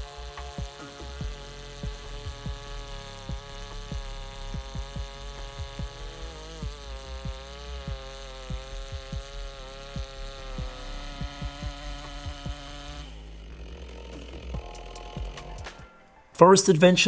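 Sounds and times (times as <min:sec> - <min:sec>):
chainsaw cutting log: 0:00.0 - 0:15.9
low thumping: 0:01.2 - 0:15.8.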